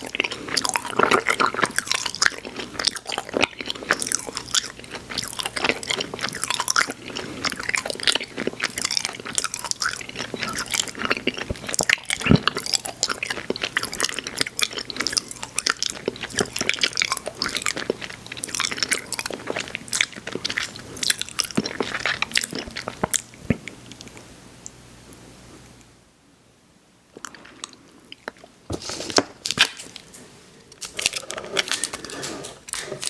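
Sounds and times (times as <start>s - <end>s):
mouth chewing candy: 0.0s - 24.3s, 27.2s - 33.0s.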